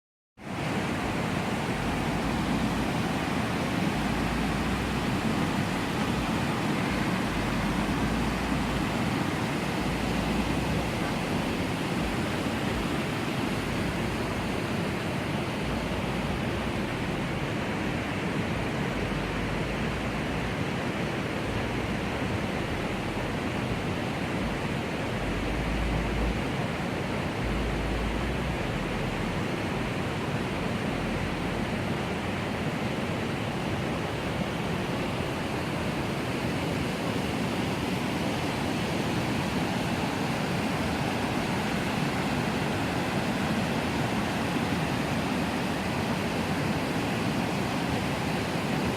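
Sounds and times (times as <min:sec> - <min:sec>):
river rushing: 0:00.4 - 0:48.9.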